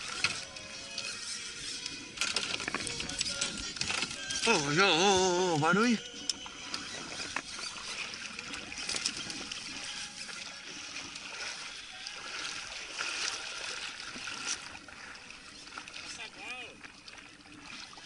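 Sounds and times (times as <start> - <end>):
water splashing and lapping: 0.0 - 18.0.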